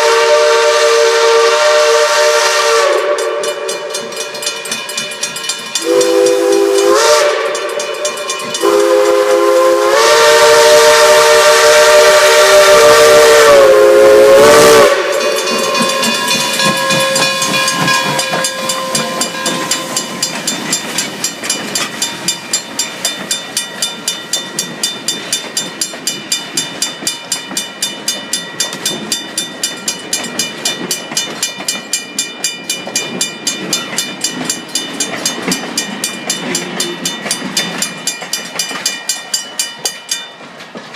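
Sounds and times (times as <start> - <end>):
steam locomotive chime whistle: 0.0 - 40.5
rhythmic steam hiss: 1.8 - 40.9.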